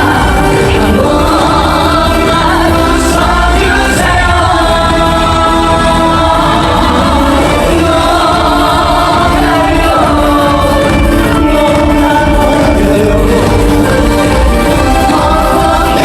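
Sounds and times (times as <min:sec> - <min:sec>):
backing track with steady beat: 0:00.0 - 0:16.0
woman singing: 0:00.0 - 0:16.0.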